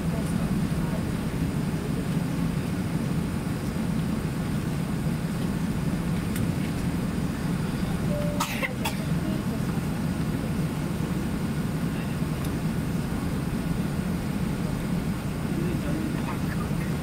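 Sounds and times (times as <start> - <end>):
aircraft engines rumbling: 0.0 - 17.0
cabin air noise: 3.0 - 17.0.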